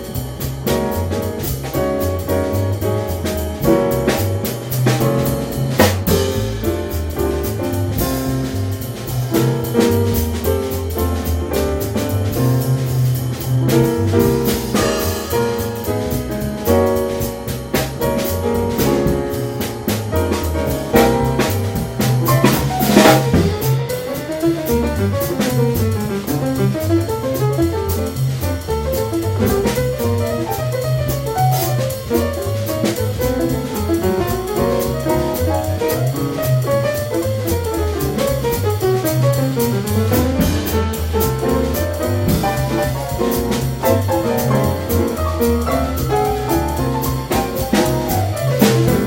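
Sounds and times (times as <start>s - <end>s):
piano run: 0.0s - 49.0s
upbeat jazz trio: 0.0s - 49.0s.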